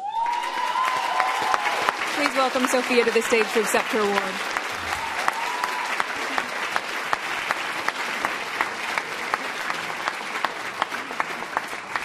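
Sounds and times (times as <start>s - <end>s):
audience applauding: 0.0s - 12.0s
sharp rhythmic claps: 0.0s - 12.0s.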